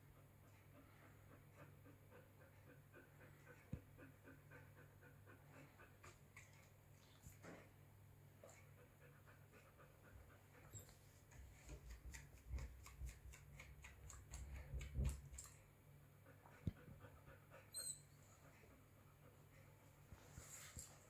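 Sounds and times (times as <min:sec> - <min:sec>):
puppy panting: 0:00.0 - 0:07.2, 0:08.4 - 0:21.0.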